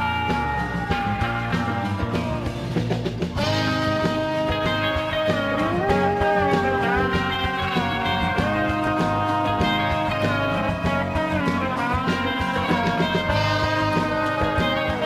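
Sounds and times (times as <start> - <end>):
bass and drums backing: 0.0 - 15.0
electric guitar bending notes: 0.0 - 15.0.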